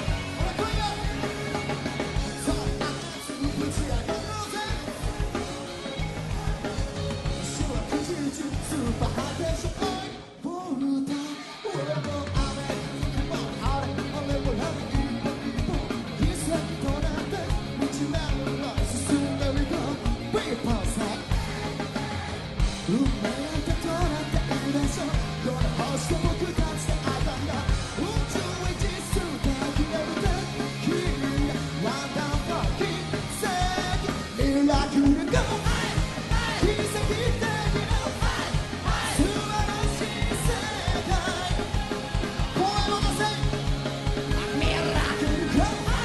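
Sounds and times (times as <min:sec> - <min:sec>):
upbeat rock pop song: 0:00.0 - 0:46.0.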